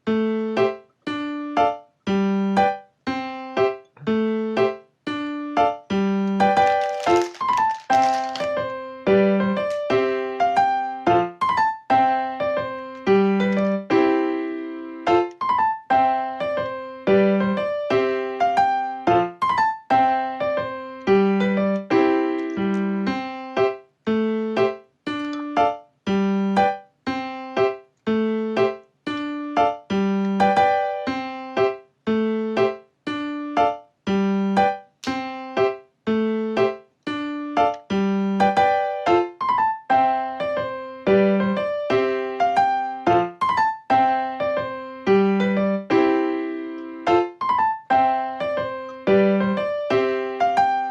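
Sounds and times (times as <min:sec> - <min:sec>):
piano melody: 0:00.0 - 0:50.9.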